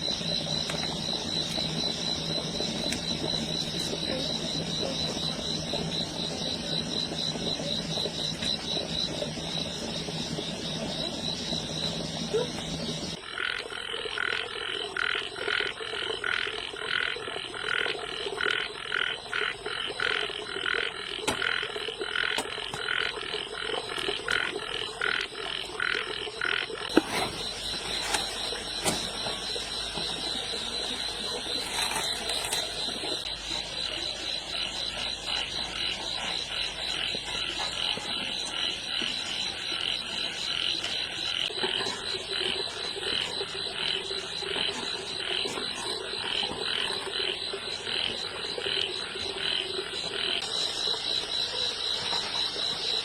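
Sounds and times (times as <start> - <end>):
frogs croaking: 0.0 - 53.0.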